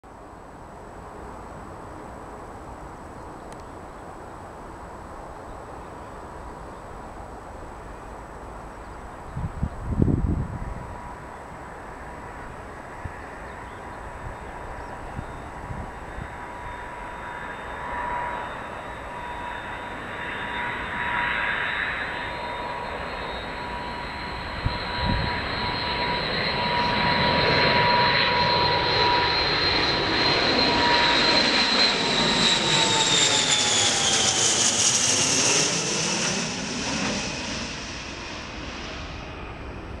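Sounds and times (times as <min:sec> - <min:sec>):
airliner passing overhead: 0:00.1 - 0:40.0.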